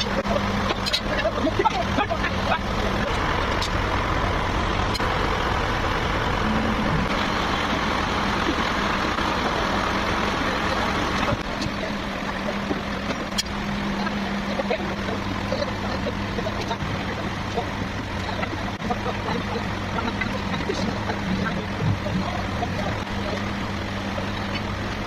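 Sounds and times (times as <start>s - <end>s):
harsh machine noise: 0.0s - 25.0s
sawmill engine hum: 0.0s - 25.0s.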